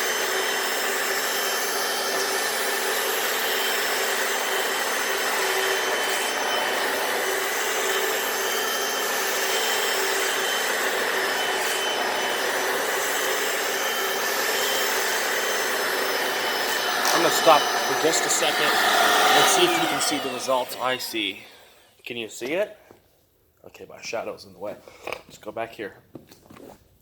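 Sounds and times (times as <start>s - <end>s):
floor scrubber running: 0.0s - 21.9s.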